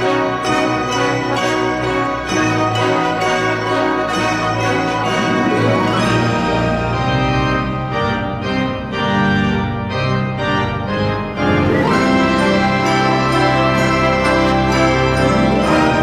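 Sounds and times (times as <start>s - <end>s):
sustained keyboard chords: 0.0s - 16.0s.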